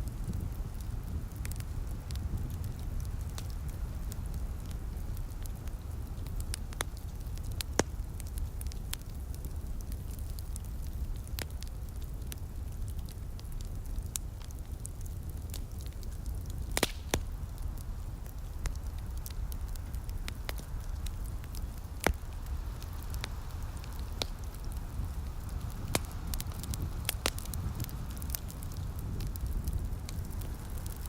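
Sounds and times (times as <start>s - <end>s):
steady low rumble: 0.0s - 31.0s
wood fire pops and snaps: 0.0s - 31.0s.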